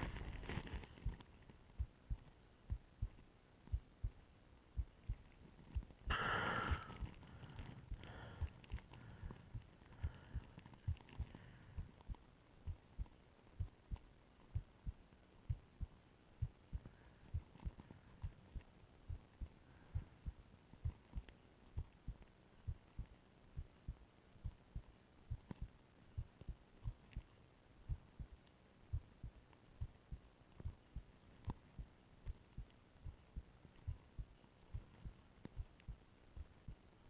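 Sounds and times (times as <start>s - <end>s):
heartbeat through stethoscope: 0.0s - 37.0s.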